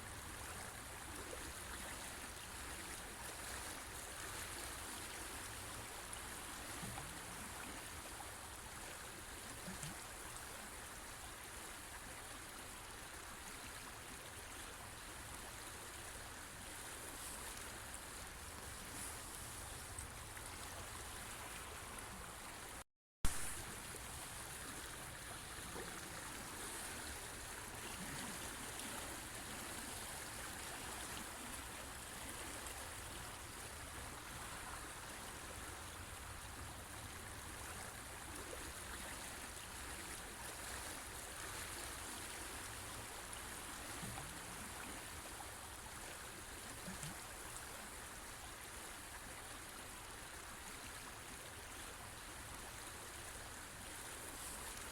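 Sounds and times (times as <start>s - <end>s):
river water flowing over rocks: 0.1s - 54.9s.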